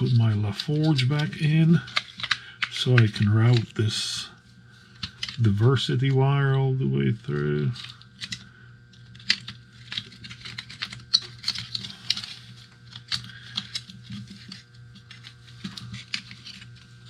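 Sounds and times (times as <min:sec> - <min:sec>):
plastic parts clicking and rustling: 0:00.0 - 0:03.8, 0:04.9 - 0:06.2, 0:07.3 - 0:17.0
faint electrical hum: 0:00.0 - 0:17.0.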